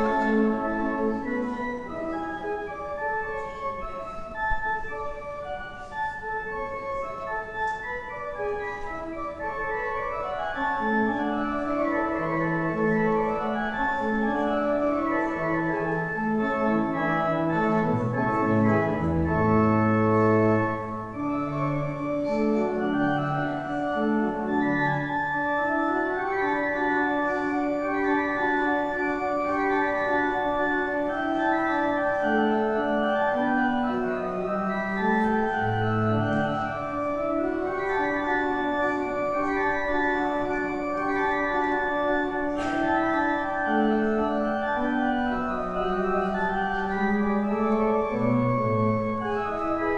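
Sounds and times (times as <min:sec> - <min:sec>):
organ playing slow piece: 0:00.0 - 0:49.9.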